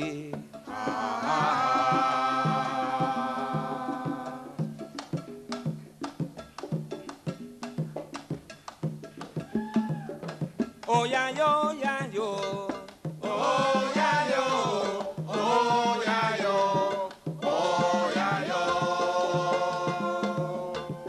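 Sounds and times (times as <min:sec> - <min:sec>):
percussion strokes: 0:00.0 - 0:21.0.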